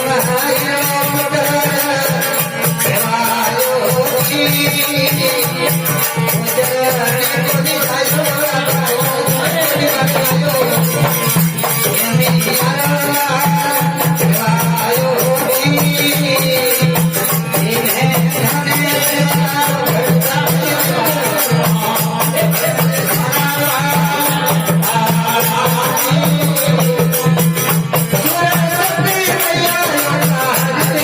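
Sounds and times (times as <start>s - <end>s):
jingling rattle percussion: 0.0s - 31.0s.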